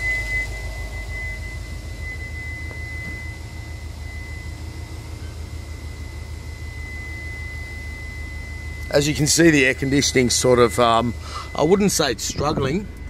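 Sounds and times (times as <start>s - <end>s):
air-conditioning blower: 0.0s - 13.0s
car engine idling: 0.0s - 13.0s
thin high-pitched tone: 0.0s - 13.0s.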